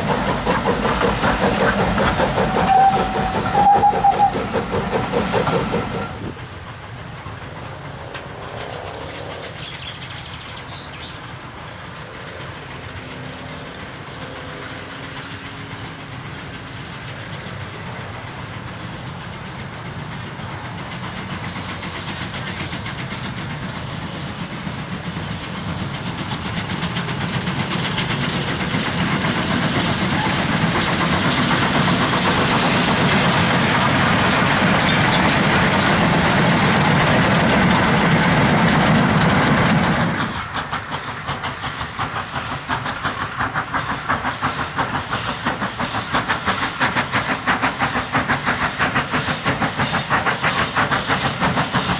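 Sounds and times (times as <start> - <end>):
steam locomotive exhaust: 0.0 - 51.9
train running: 0.0 - 51.9.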